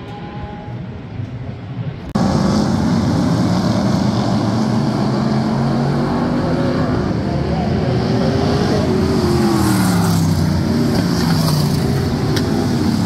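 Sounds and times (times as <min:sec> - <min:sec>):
race car engine droning: 0:02.2 - 0:13.0.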